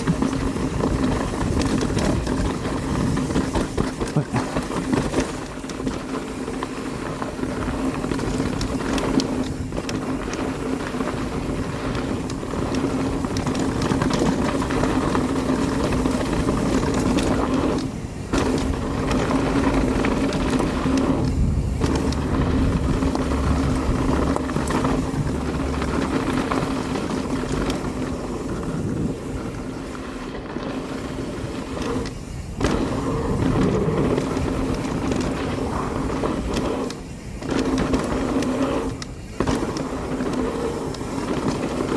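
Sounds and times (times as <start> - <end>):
bike tyre and wind noise: 0.0 - 41.9.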